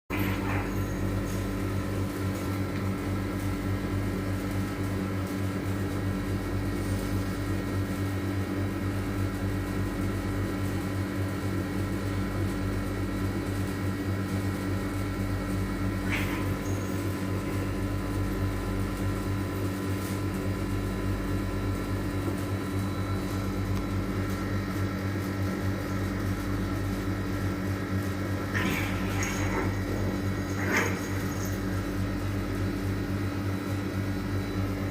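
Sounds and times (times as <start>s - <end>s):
low mechanical hum: 0.1s - 34.9s.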